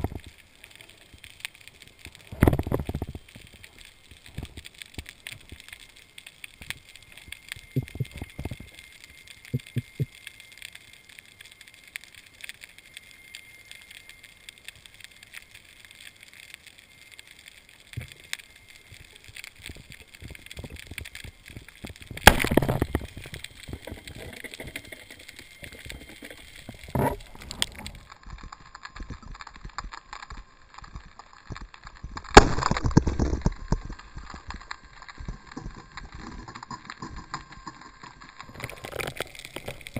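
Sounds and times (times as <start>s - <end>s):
underwater crackling clicks: 0.0s - 39.9s.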